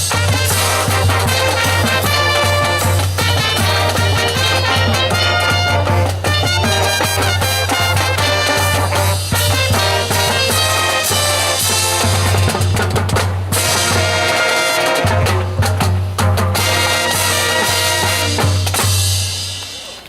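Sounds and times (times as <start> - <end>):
brass and wind chord: 0.0 - 18.8
bass drum and rimshots: 0.0 - 19.7
marching band playing: 0.0 - 20.0.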